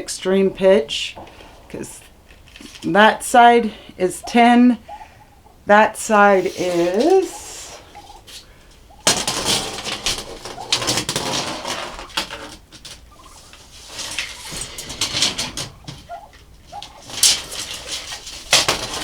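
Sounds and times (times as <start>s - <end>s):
chickens clucking: 0.0s - 19.0s
clicks and rustling: 0.6s - 4.4s, 6.2s - 19.0s.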